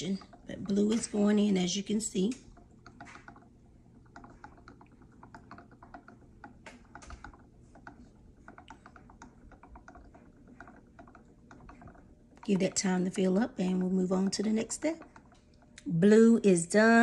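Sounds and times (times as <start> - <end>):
faint ticking and popping bubbles: 0.0 - 17.0.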